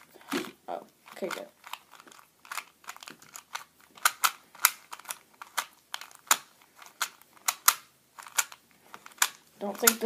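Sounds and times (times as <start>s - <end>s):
puzzle cube clicking: 0.2s - 10.0s.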